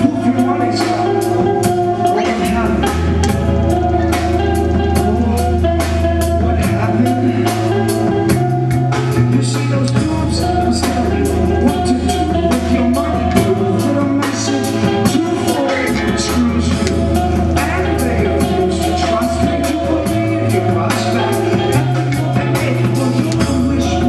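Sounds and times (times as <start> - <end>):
bass notes: 0.0 - 24.0
drum kit beat: 0.0 - 24.0
guitar: 0.0 - 24.0
person singing: 0.0 - 24.0.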